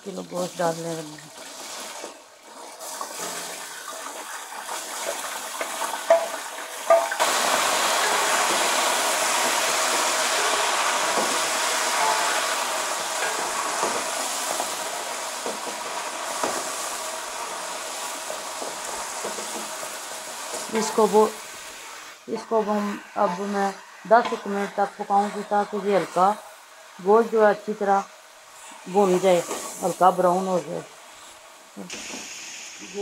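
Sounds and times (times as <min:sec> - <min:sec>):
meat sizzling in hot oil: 0:00.0 - 0:33.0.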